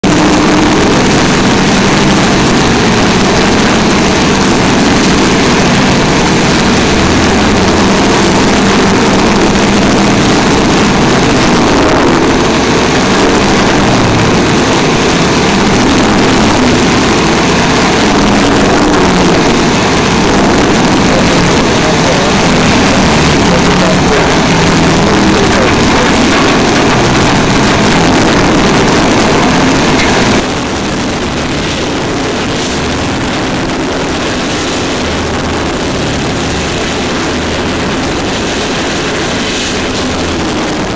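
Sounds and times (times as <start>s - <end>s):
tub grinder grinding wood: 0.0s - 40.9s.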